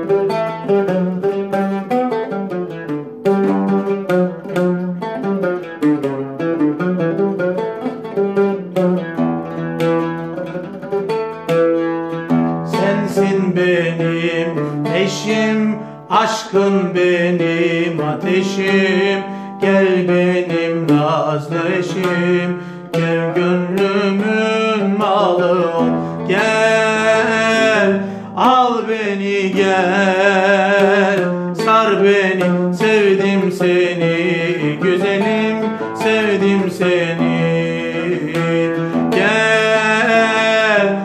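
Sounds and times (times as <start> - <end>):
plucked oud melody: 0.0 - 41.0.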